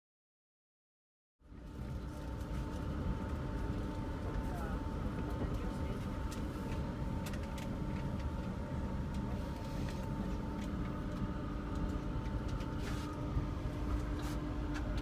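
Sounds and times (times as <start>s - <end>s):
train carriage rumble and hum: 1.5s - 15.0s.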